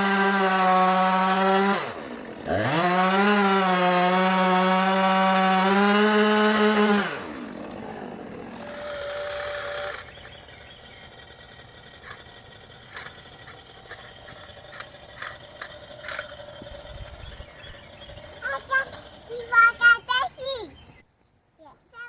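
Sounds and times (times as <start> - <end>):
chainsaw engine winding down: 0.0 - 20.2.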